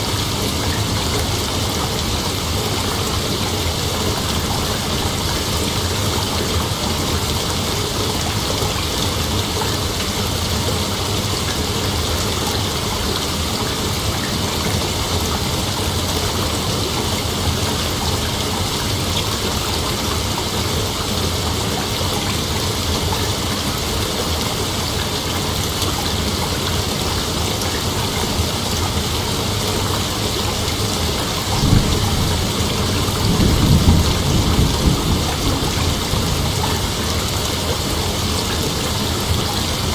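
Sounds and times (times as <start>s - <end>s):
steady hiss like rain: 0.0s - 39.9s.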